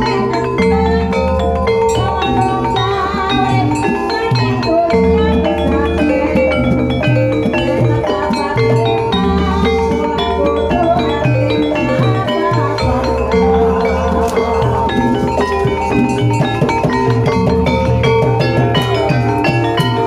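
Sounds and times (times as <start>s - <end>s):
drums: 0.0s - 20.0s
struck keyed percussion: 0.0s - 20.0s.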